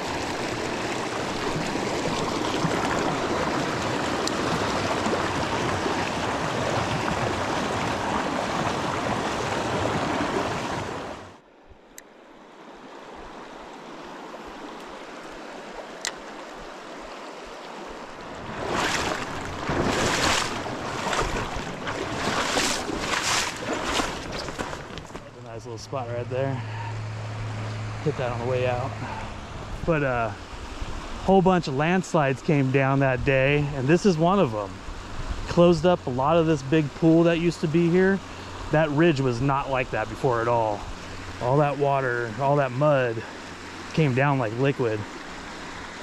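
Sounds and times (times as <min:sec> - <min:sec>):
river water rushing: 0:00.0 - 0:33.0, 0:33.6 - 0:46.0.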